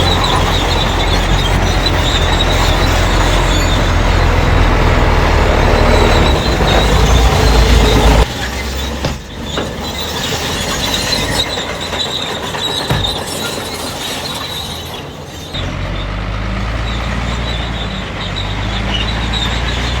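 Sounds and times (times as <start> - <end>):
heavy machinery diesel engines: 0.0 - 20.0
high squeal: 0.0 - 20.0.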